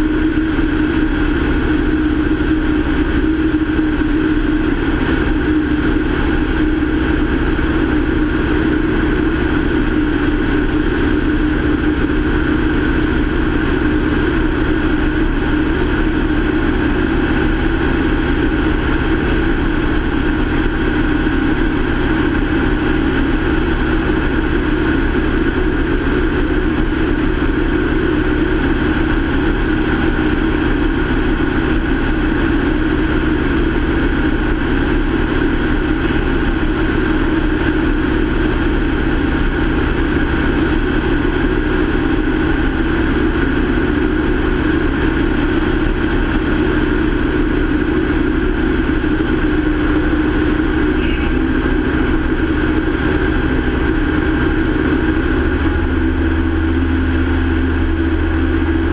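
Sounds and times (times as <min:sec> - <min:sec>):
propeller aircraft engine: 0:00.0 - 0:58.9.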